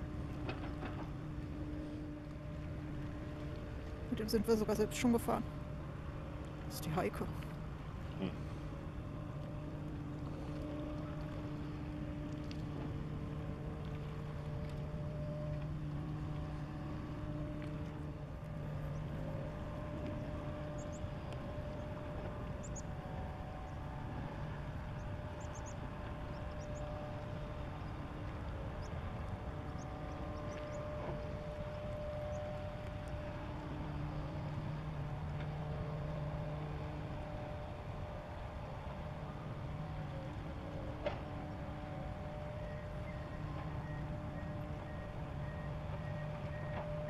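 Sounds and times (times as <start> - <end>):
boat diesel engine: 0.0 - 47.0
water noise: 0.0 - 47.0
wind: 0.0 - 47.0.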